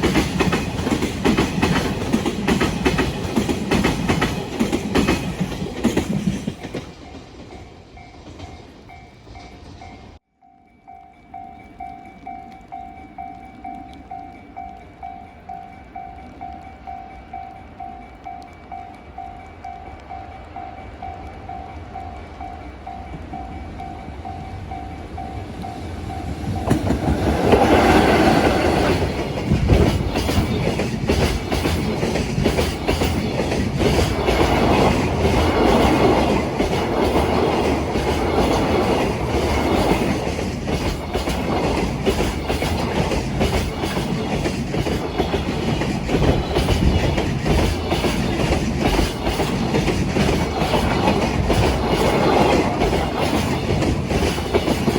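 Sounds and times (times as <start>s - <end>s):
train wheels clattering on rails: 0.0s - 10.2s, 17.3s - 54.9s.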